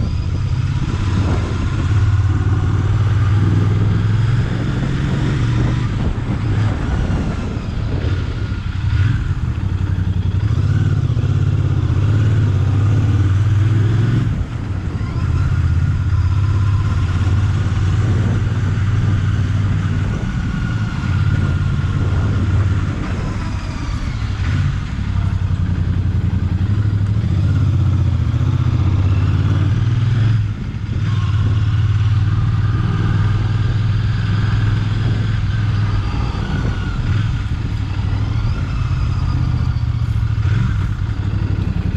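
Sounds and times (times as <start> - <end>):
motorcycle engine running: 0.0 - 41.9
wind noise on microphone: 0.0 - 41.9.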